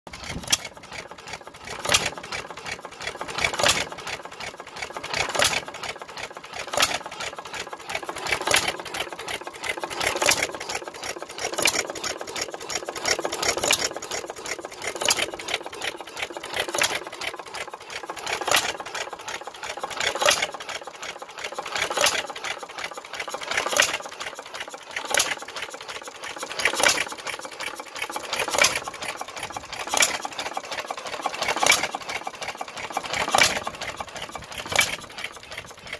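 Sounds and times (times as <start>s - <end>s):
single-cylinder engine popping and ticking: 0.1s - 35.9s.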